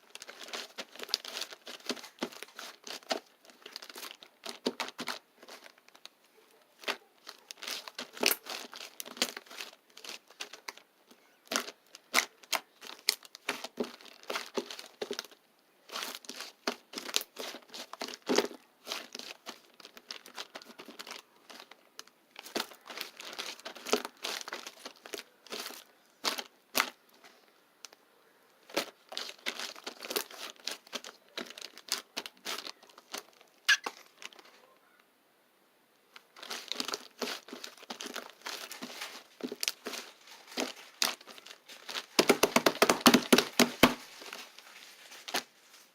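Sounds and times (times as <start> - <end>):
crinkling handling noise: 0.0 - 35.0, 36.0 - 45.9.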